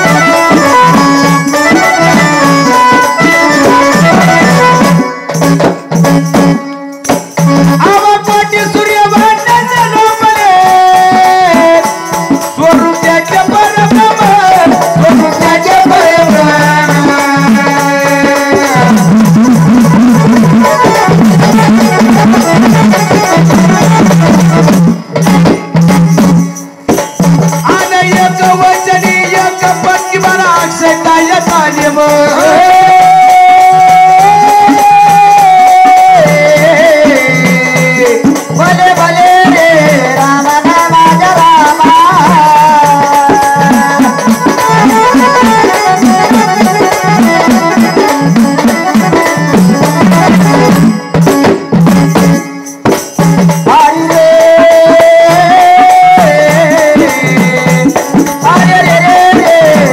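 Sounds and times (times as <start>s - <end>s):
rattling percussion: 0.0s - 59.9s
steady drum beat: 0.0s - 59.9s.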